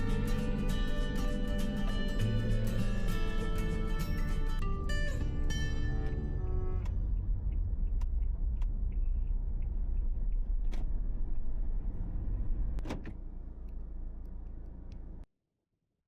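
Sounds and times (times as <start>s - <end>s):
van engine rumble: 0.0s - 15.3s.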